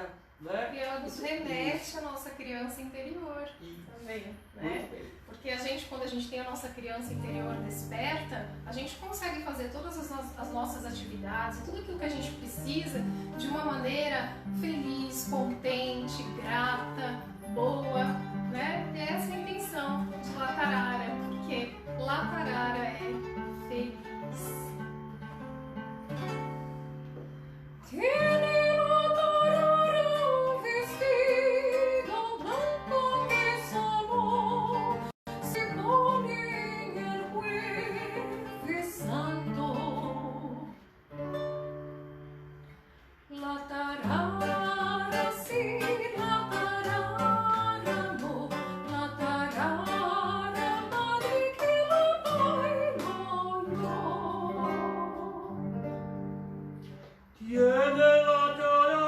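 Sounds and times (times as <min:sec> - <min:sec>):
plucked acoustic guitar: 0:06.1 - 0:59.0.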